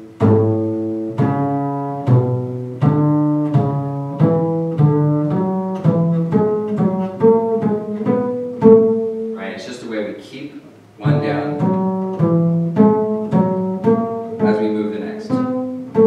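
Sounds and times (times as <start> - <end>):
upright bass plucked notes: 0.0 - 9.4, 11.0 - 16.0.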